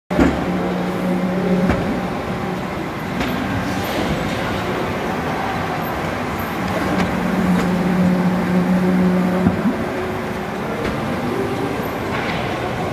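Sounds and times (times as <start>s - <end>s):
laminator machine humming: 0.1s - 12.9s.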